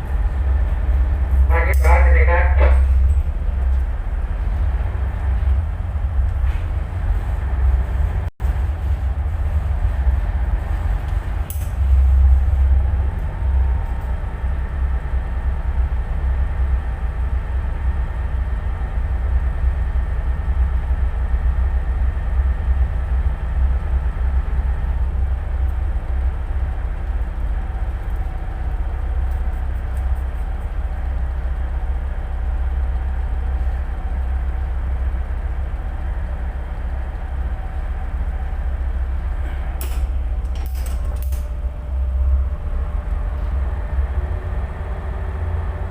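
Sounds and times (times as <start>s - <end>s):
diesel engine rumbling: 0.0s - 45.9s.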